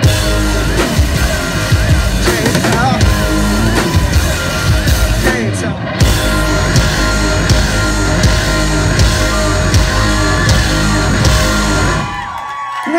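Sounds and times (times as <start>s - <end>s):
warbling synth line: 0.0s - 12.2s
distorted guitar: 0.0s - 12.4s
live rock band playing: 0.0s - 12.4s
heavy drums: 0.0s - 12.5s.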